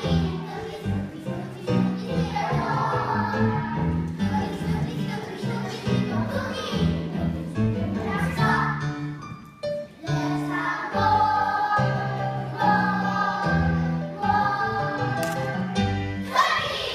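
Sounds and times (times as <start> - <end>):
children's chorus singing: 0.0 - 9.1, 9.9 - 16.9.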